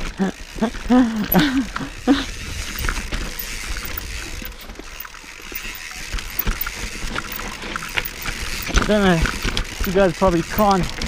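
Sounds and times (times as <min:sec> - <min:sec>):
bike chain and frame rattling: 0:00.0 - 0:11.0
bike tyre rushing on dirt: 0:00.4 - 0:11.0.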